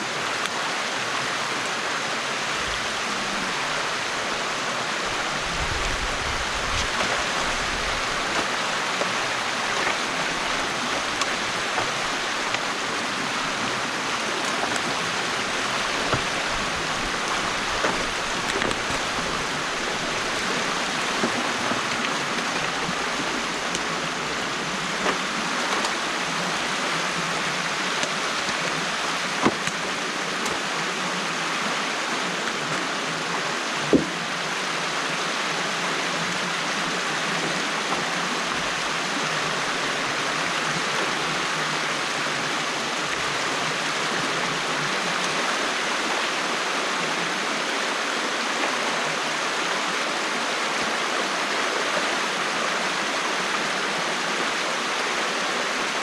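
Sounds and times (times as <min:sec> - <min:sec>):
water rushing through a dam: 0:00.0 - 0:56.0.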